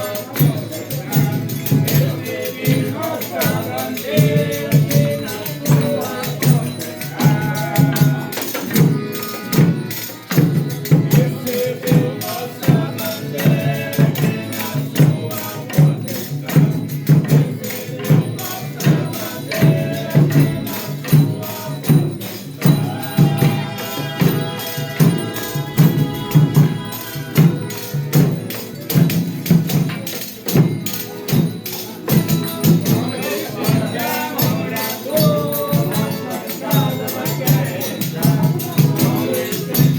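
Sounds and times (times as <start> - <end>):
people singing verses: 0.0 - 39.9
steady drum beat: 0.0 - 39.9
tambourine: 0.0 - 39.9.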